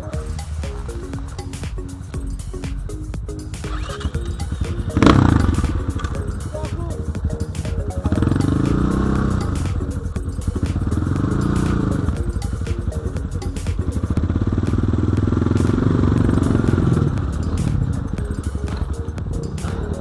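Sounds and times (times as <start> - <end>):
motorcycle engine revving: 3.5 - 20.0.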